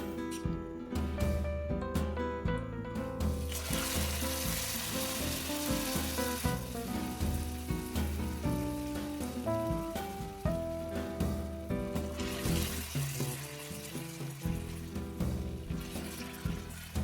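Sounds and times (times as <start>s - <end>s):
background music: 0.0s - 17.0s
caramel sizzling in saucepan: 3.4s - 17.0s.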